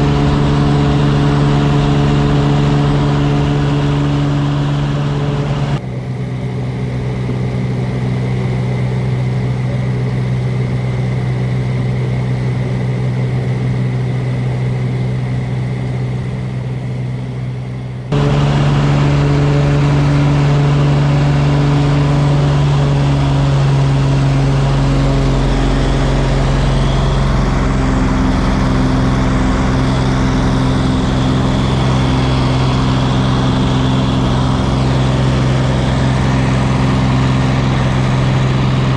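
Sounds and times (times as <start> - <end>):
plane engine and propeller: 0.0 - 38.9.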